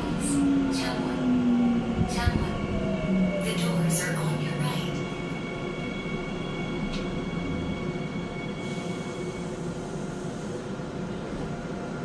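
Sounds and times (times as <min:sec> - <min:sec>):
subway train rumble: 0:00.0 - 0:12.0.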